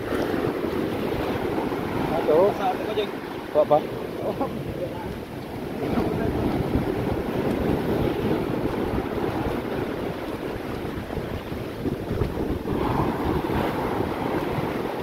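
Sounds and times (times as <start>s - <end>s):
surf breaking: 0.0s - 15.0s
wind rumbling on microphone: 0.0s - 15.0s.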